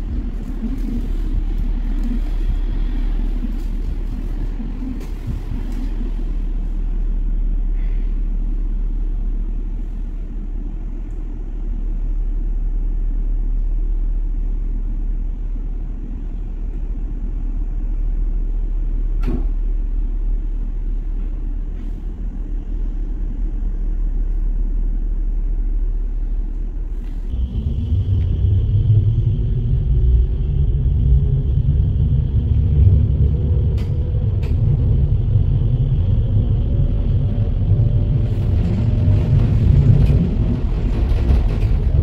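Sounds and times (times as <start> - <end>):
light-rail car rumble: 0.0 - 42.0
steady high whine: 0.0 - 42.0.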